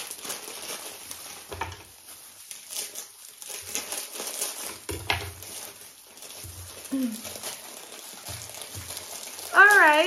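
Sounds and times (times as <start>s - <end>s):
hand mixing shredded vegetables: 0.0s - 10.0s
plastic glove rustling: 0.0s - 10.0s.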